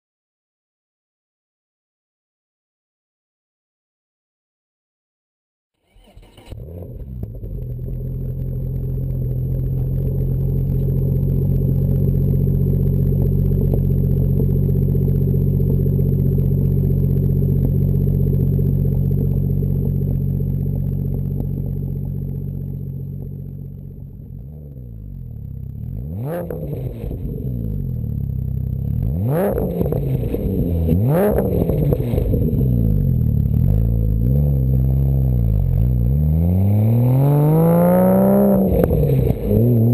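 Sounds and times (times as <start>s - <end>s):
car engine running steadily: 6.0s - 39.9s
car exhaust engine revving: 6.6s - 39.9s.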